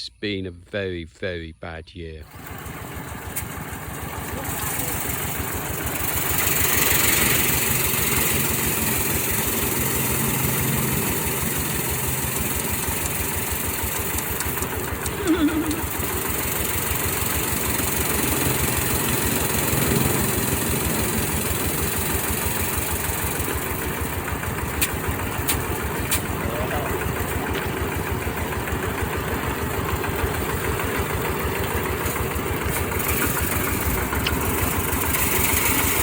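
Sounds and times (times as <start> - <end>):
threshing machine engine running: 2.2 - 36.0.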